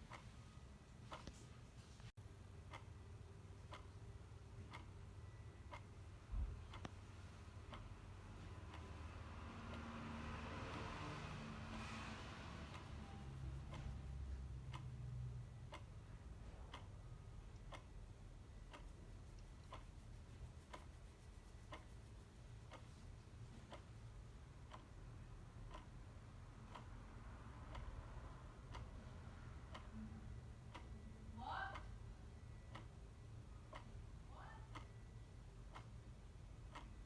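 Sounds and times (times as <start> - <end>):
clock ticking faintly: 0.0 - 37.0.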